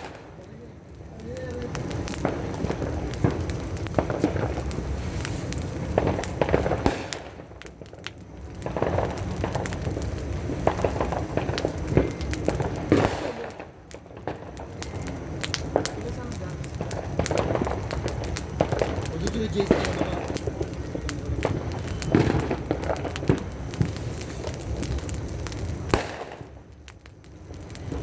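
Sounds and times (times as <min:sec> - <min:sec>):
firecrackers popping: 0:00.0 - 0:28.0.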